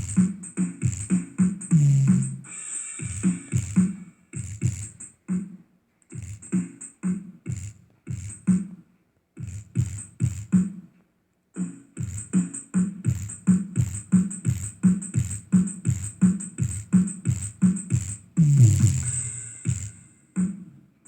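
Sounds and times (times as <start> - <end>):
electronic music with heavy bass: 0.0 - 5.2, 6.2 - 8.6, 9.4 - 10.7, 11.6 - 20.1.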